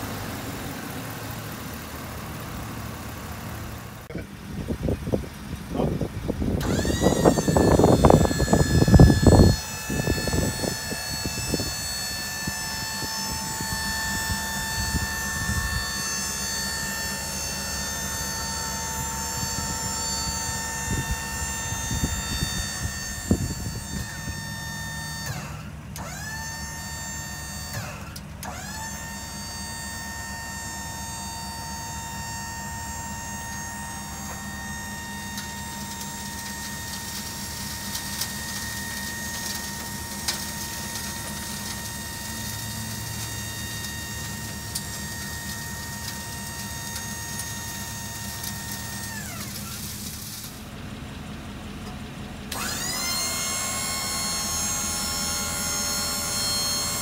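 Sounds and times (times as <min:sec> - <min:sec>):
hydraulic pump motor whine: 0:00.0 - 0:57.0.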